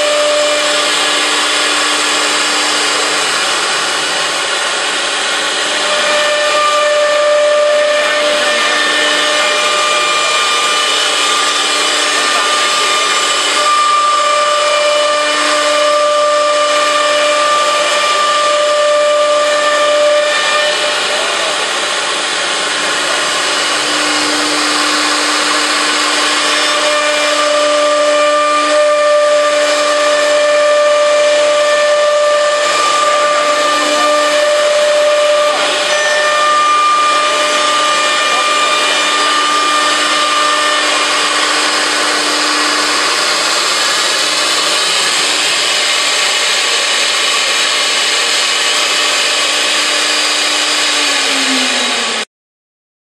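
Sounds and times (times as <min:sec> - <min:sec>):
hiss of wood cutting: 0:00.0 - 0:52.3
router spindle whine: 0:00.0 - 0:52.3.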